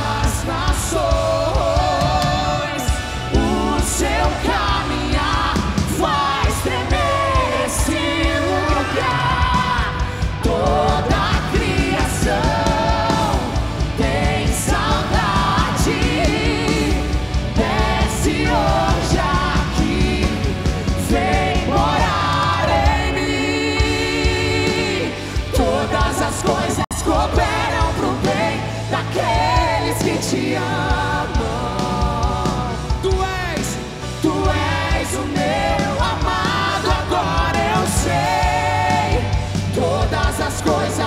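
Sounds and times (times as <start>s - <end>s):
lead singer singing: 0.0s - 41.0s
steady drum beat: 0.0s - 41.0s
worship band playing: 0.0s - 41.0s.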